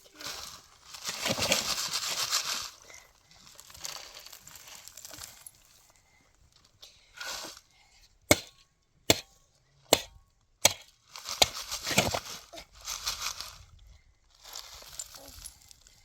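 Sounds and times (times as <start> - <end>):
rustling and scraping: 0.0 - 16.0.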